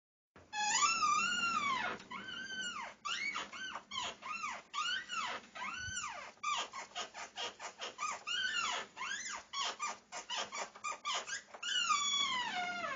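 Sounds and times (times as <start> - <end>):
squeaky door hinge creaking: 0.4 - 12.9.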